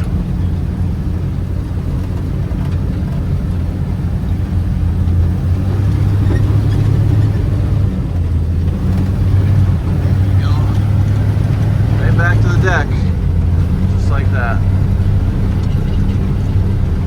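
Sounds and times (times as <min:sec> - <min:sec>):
snowcat engine running: 0:00.0 - 0:17.0.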